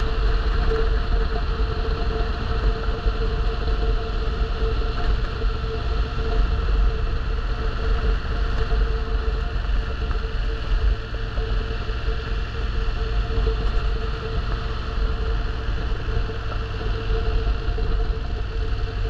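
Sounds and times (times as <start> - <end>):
low fluctuating rumble: 0.0 - 19.0
vehicle engine and road drone: 0.0 - 19.0.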